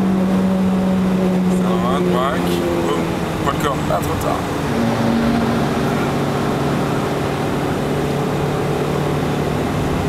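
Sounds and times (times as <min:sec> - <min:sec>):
car engine from inside cabin: 0:00.0 - 0:10.0
road noise: 0:00.0 - 0:10.0.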